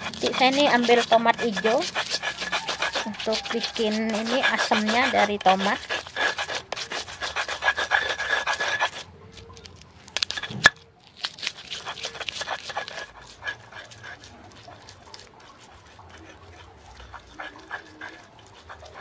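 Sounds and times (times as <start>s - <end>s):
pestle grinding in stone mortar: 0.0s - 19.0s.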